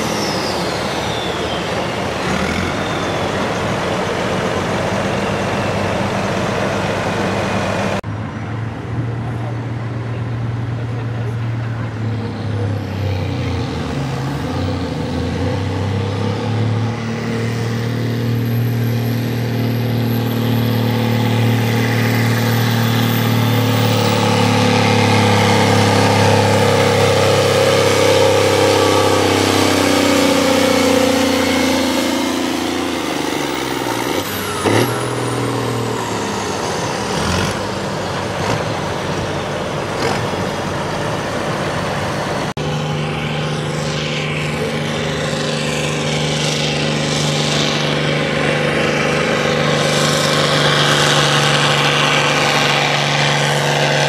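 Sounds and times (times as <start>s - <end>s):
tractor engine under heavy load: 0.0s - 54.0s.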